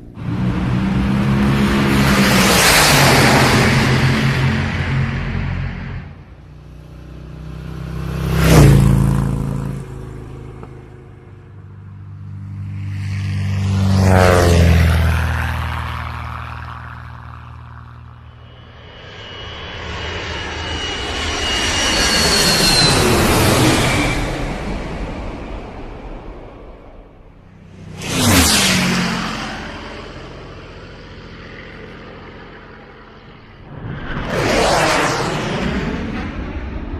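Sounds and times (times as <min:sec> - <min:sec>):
aircraft flying past: 0:00.0 - 0:36.9.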